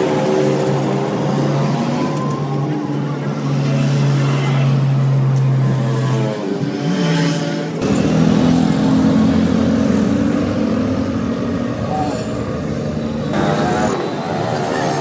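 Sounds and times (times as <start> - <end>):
passing road traffic engines: 0.0 - 15.0.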